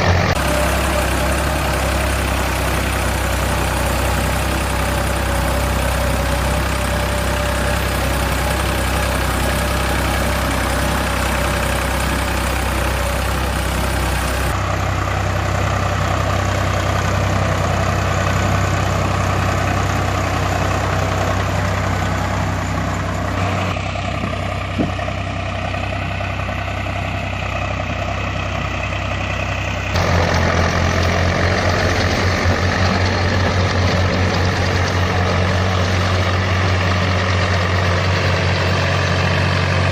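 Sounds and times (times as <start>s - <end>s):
diesel machinery engines droning: 0.0s - 39.9s.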